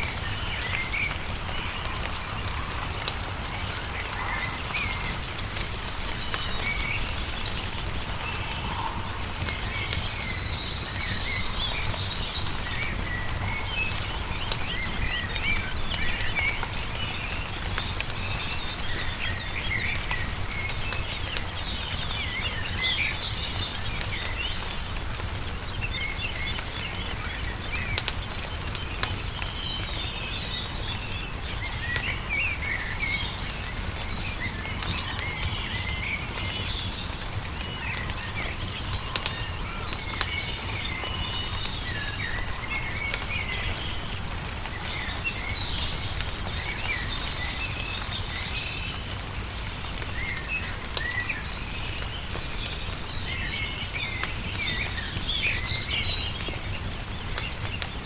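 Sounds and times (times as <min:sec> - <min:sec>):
songbirds chirping: 0:00.0 - 0:58.0
wood fire crackling: 0:00.0 - 0:58.0.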